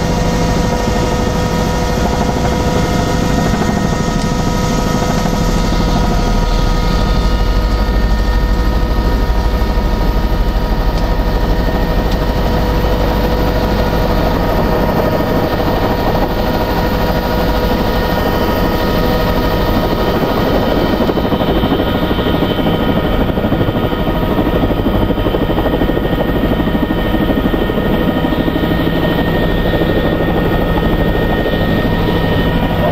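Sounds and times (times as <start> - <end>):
helicopter blades chopping: 0.0 - 32.9
turbine whine: 0.0 - 32.9.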